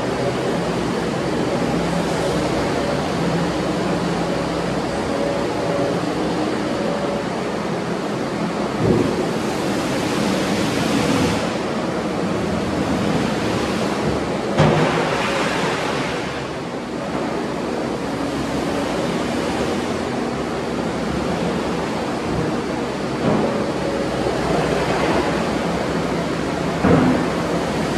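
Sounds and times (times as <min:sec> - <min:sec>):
track loader diesel engine: 0:00.0 - 0:27.9.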